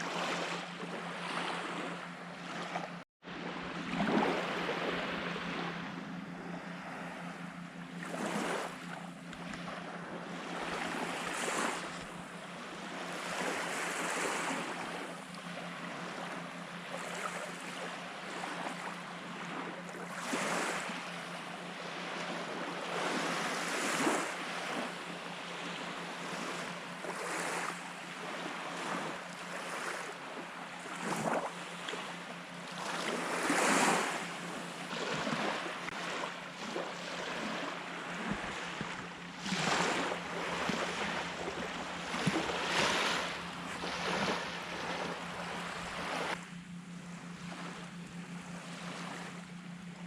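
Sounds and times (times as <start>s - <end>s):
small waves washing onto beach: 0.0s - 49.8s
steady low hum: 0.0s - 50.0s.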